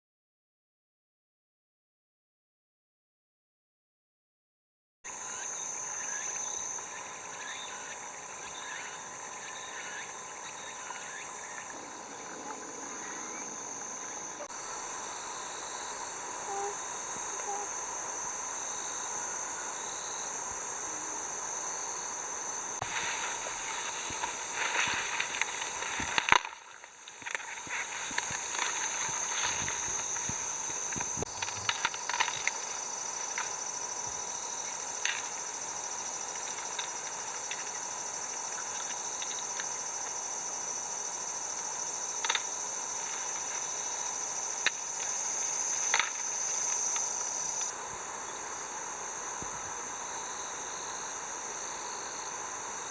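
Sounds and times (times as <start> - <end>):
insect chorus drone: 5.1 - 52.9.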